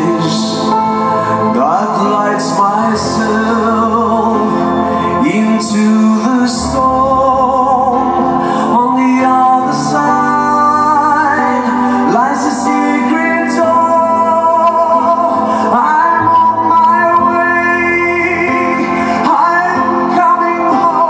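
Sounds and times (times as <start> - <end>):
singer holding long notes: 0.0 - 21.0.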